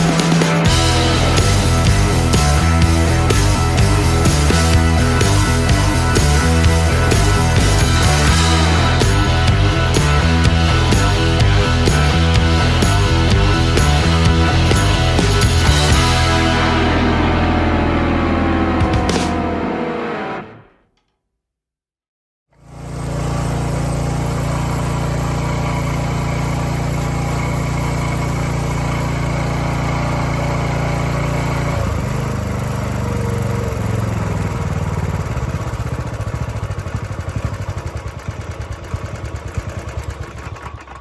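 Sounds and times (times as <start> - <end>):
engine running: 0.0 - 20.6, 22.6 - 41.0.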